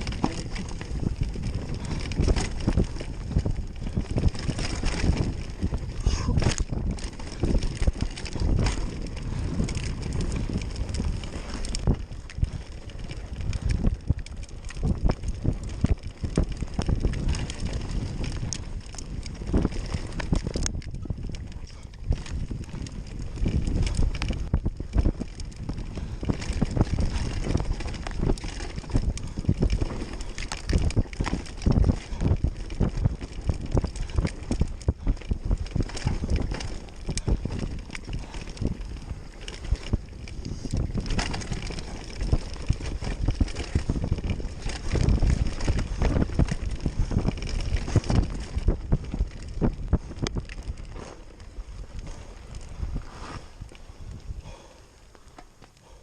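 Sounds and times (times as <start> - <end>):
bike knocking and rattling: 0.0 - 56.0
bike tyres rumbling on dirt: 0.0 - 56.0
wind buffeting microphone: 0.0 - 56.0.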